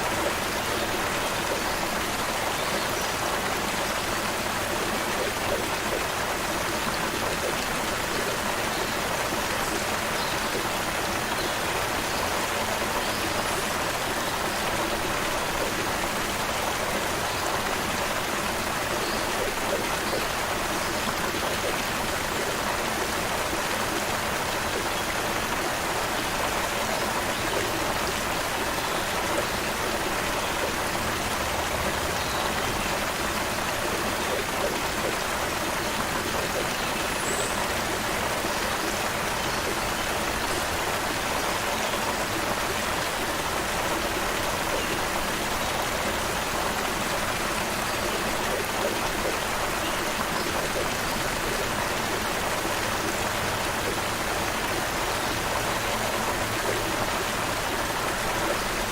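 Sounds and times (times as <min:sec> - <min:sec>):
creek water flowing: 0:00.0 - 0:58.9.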